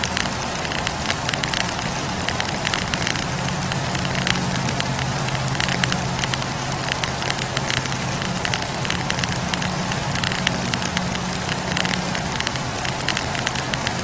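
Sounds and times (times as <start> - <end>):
wood fire crackling: 0.0 - 14.0
low rumble: 1.6 - 13.8.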